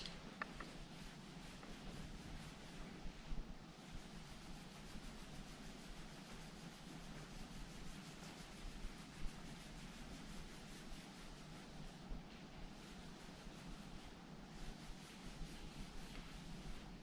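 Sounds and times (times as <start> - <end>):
rubbing and scrubbing: 0.3 - 17.0.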